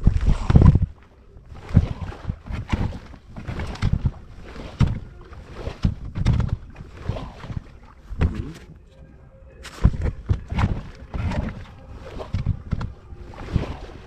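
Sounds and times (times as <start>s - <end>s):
water slapping against boat hull: 0.2s - 8.9s, 9.6s - 14.0s.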